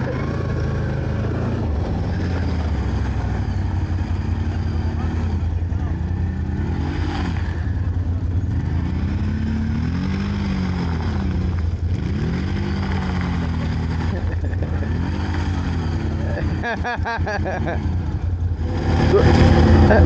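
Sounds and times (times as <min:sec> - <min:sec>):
quad bike engine revving: 0:00.0 - 0:20.0
steady low drone: 0:00.0 - 0:20.0.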